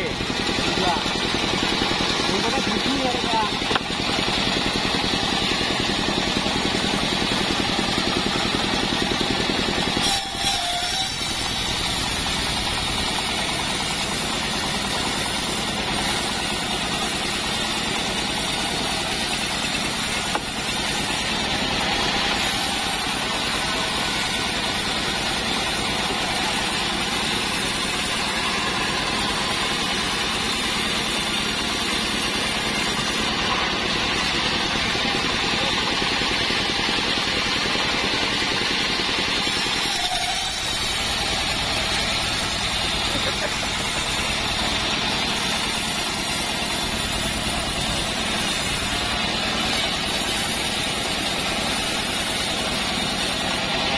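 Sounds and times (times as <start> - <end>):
band blade sawing through log: 0.0 - 53.9
sawmill engine running: 0.0 - 53.9.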